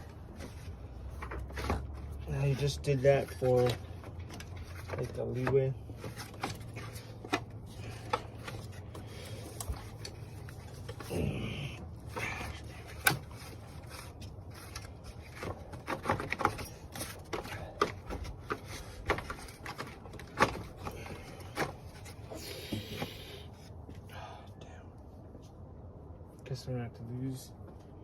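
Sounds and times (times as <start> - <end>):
hand tools clicking and scraping metal: 0.0 - 23.2.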